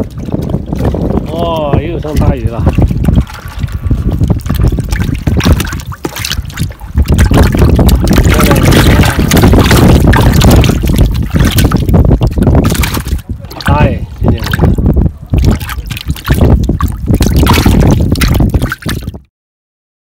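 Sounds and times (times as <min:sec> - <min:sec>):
fish splashing in bucket: 0:00.0 - 0:19.2
wind rumbling on microphone: 0:00.0 - 0:19.3.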